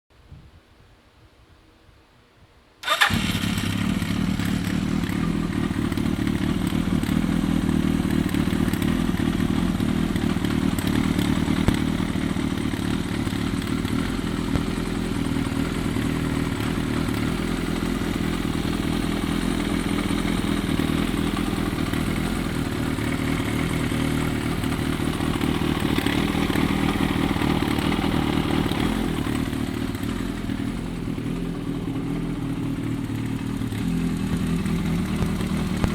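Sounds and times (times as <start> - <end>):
motorcycle engine starting and running: 2.8 - 35.9.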